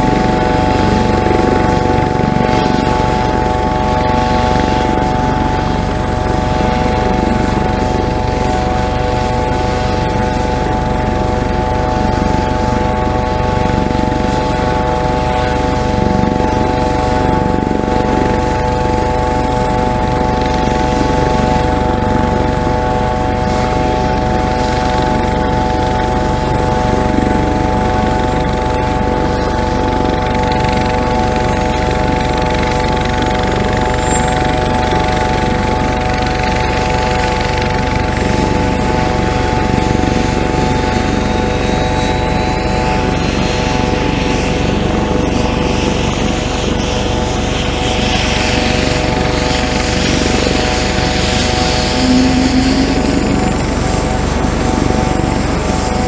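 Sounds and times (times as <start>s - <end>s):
helicopter rotor rumble: 0.0s - 56.0s
helicopter whine: 0.0s - 56.0s.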